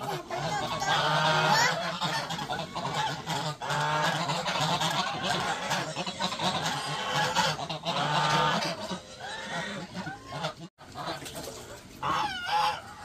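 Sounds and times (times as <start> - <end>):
waterfowl flock calling: 0.0 - 13.0.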